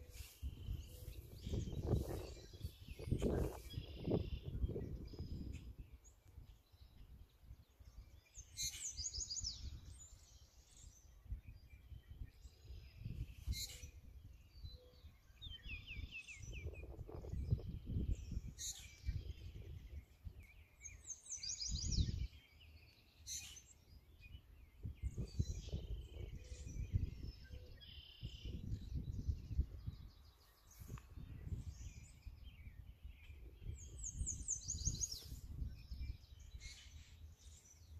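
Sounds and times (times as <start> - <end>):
small songbirds singing: 0.0 - 37.9.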